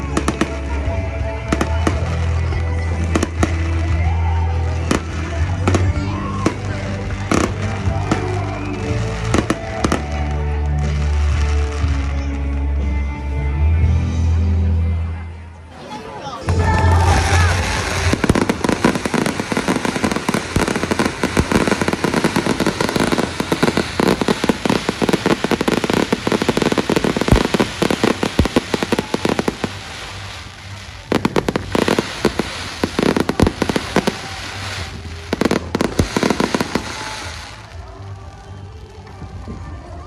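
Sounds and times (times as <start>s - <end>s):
fireworks bangs and crackles: 0.0s - 12.8s, 16.4s - 40.0s.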